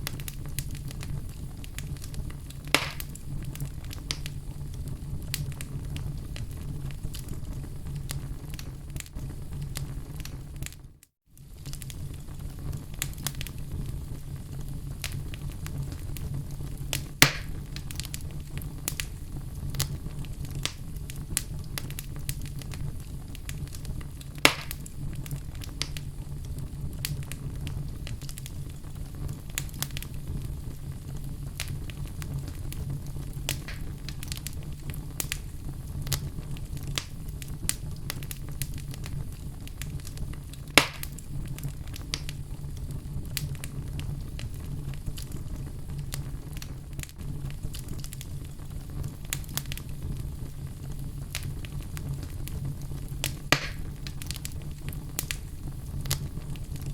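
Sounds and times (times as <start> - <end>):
fire popping: 0.0 - 56.9
wood fire rumbling and crackling: 0.0 - 56.9.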